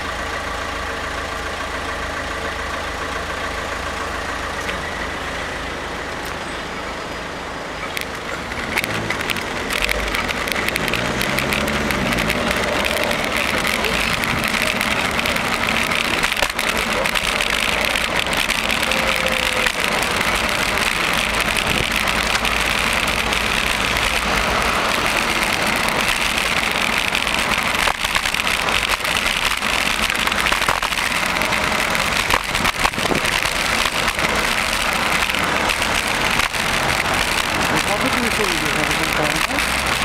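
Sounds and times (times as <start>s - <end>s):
car traffic: 0.0s - 40.0s
rushing noise of bicycle ride: 4.5s - 40.0s.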